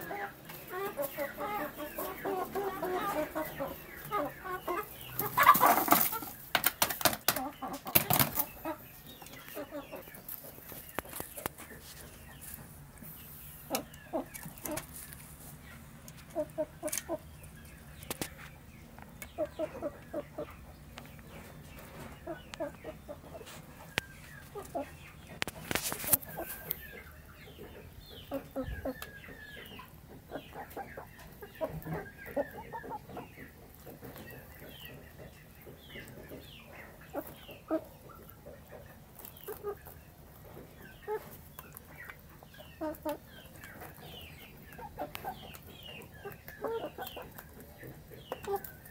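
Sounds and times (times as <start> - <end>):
chickens clucking softly: 0.0 - 48.9.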